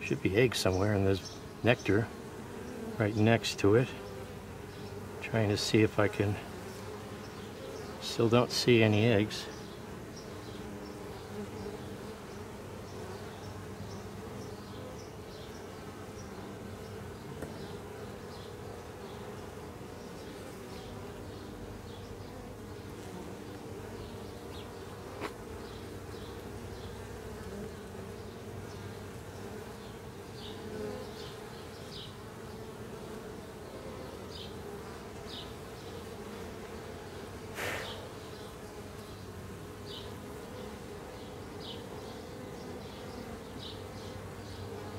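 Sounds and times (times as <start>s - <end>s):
bees buzzing: 0.0s - 44.9s.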